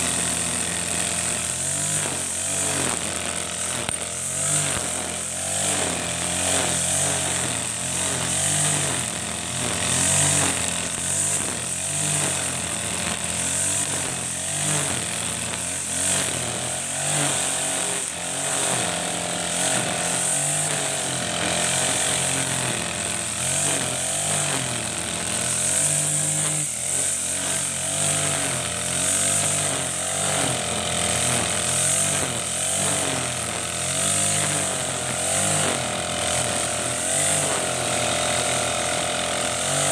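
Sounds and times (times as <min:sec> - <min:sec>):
brush cutter engine running: 0:00.0 - 0:39.9
trimmer line whirring: 0:00.0 - 0:39.9.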